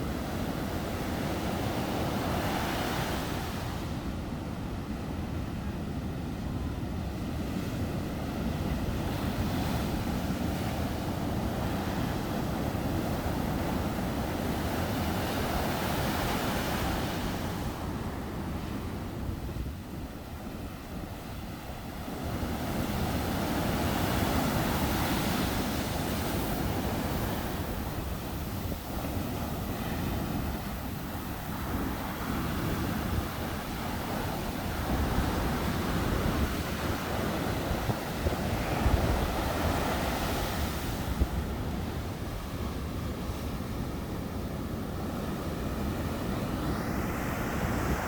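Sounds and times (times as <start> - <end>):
wind buffeting microphone: 6.1 - 48.0
sea waves breaking on beach: 9.0 - 48.0.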